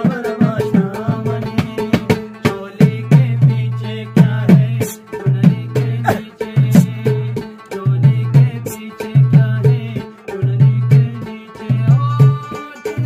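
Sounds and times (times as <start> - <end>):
drum beating quick rhythm: 0.0 - 13.0
man singing folk song: 0.0 - 13.0
plucked strings: 0.0 - 13.0.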